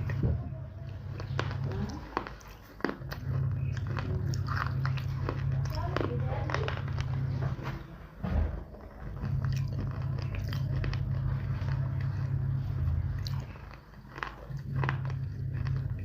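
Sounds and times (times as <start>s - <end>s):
person crunching baked clay: 0.0s - 16.0s
steady low hum: 0.0s - 16.0s.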